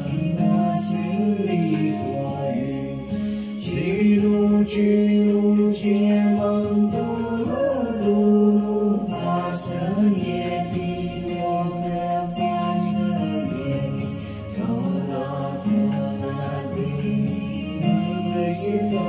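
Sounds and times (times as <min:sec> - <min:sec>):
man singing slowly: 0:00.0 - 0:19.0.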